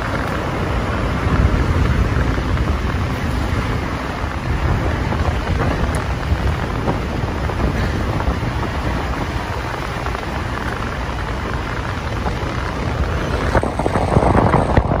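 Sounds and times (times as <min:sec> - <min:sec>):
vehicle rumble on road: 0:00.0 - 0:15.0
wind buffeting microphone: 0:00.0 - 0:15.0.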